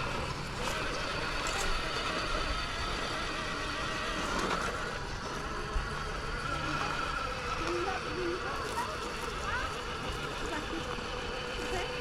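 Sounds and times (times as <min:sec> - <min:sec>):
toy car motor whine: 0:00.0 - 0:12.0.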